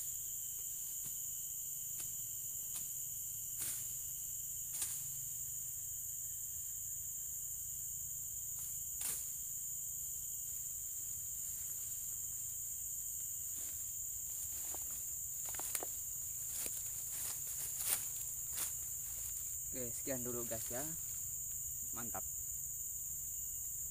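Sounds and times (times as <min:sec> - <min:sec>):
high-pitched insect buzz: 0:00.0 - 0:23.9.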